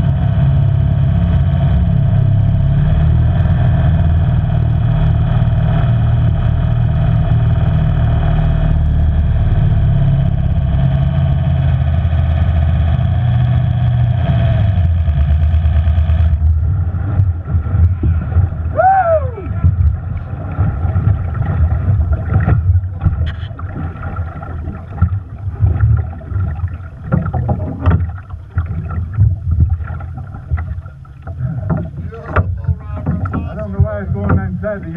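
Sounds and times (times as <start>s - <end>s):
wind on microphone: 0.0s - 34.8s
boat engine running slowly: 0.0s - 34.9s
water sloshing against hull: 0.0s - 34.9s.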